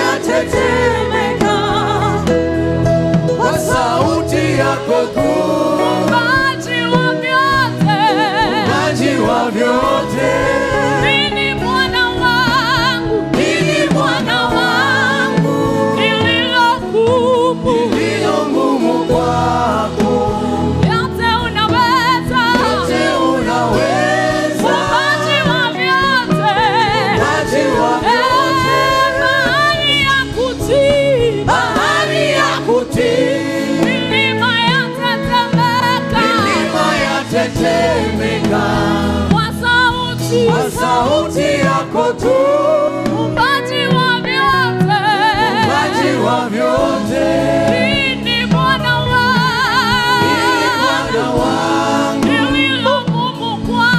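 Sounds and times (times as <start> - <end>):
choir singing gospel song: 0.0 - 53.9.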